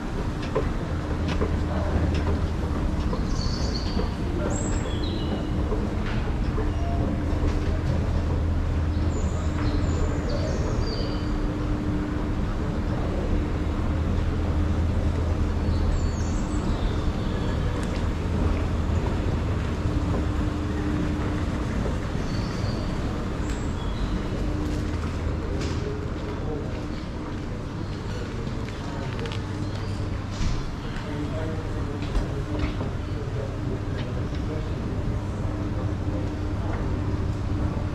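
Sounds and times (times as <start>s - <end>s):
vehicle engine rumble: 0.0s - 37.9s.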